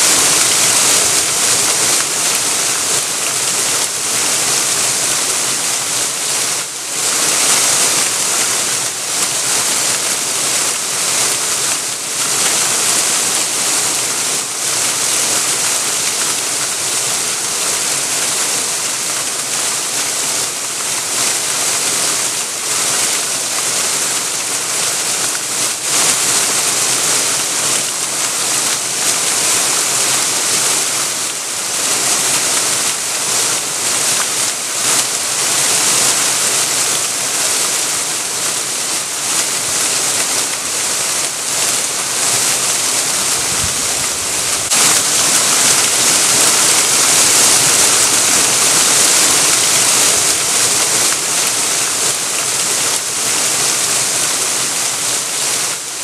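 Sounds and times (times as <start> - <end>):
waterfall pouring onto stones: 0.0 - 56.0.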